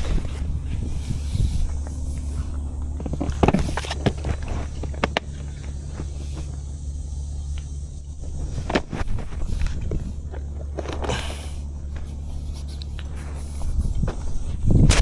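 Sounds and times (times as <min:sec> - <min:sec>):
knocks and scrapes of handling: 0:00.0 - 0:06.6, 0:08.4 - 0:15.0
steady low rumble: 0:00.0 - 0:15.0.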